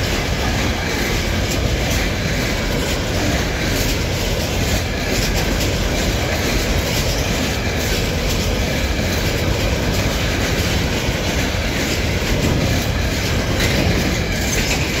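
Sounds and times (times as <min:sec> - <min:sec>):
freight train wheels rumbling: 0:00.0 - 0:15.0
wheel clicks over rail joints: 0:00.0 - 0:15.0.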